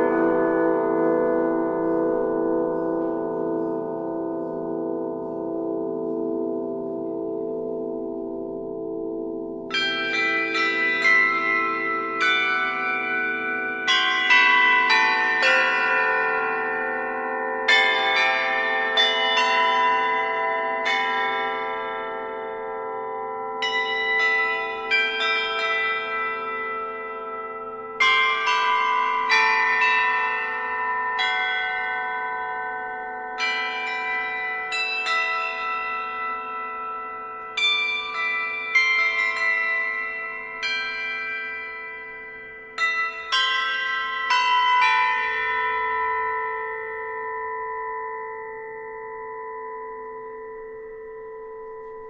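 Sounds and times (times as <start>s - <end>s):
higher church bells struck: 0.0s - 50.3s
hum of larger bells: 0.0s - 52.0s.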